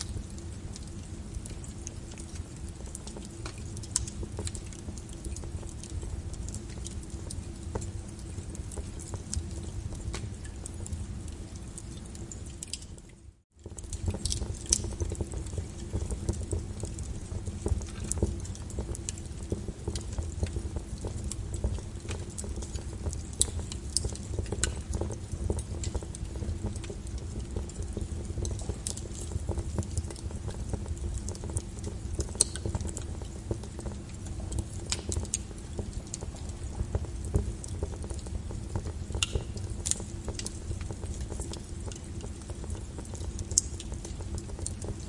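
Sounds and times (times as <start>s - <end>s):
brown noise hiss: 0.0s - 45.0s
fire crackling: 0.0s - 45.0s.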